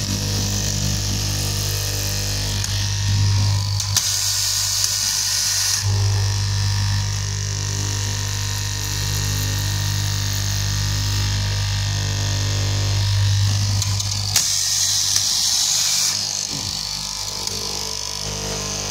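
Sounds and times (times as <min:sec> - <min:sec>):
cloth cutting machine motor hum: 0:00.0 - 0:18.9.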